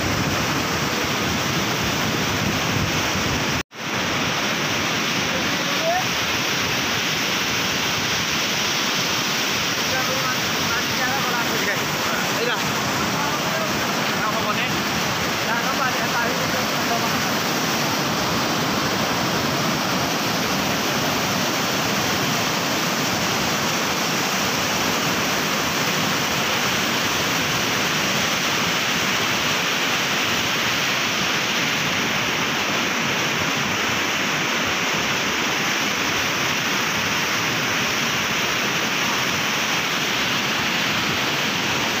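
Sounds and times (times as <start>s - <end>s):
floodwater rushing through rapids: 0.0s - 42.0s.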